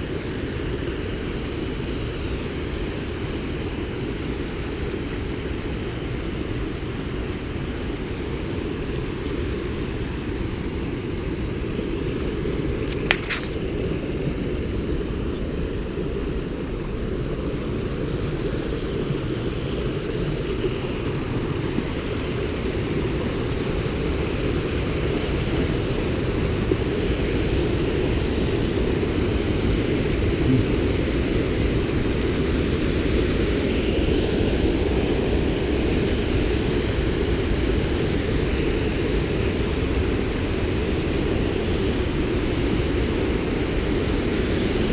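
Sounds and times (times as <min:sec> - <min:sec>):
water rushing over rocks: 0:00.0 - 0:44.9.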